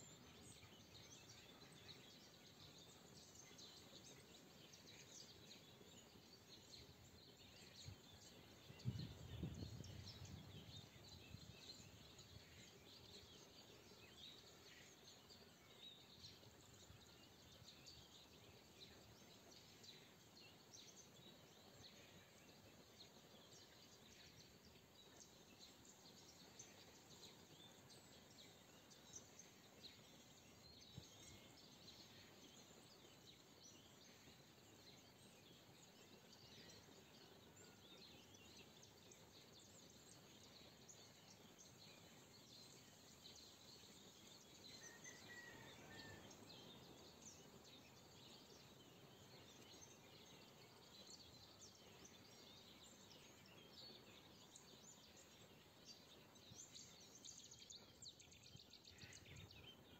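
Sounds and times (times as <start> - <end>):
low steady hiss: 0.0 - 59.9
small birds chirping: 0.0 - 59.9.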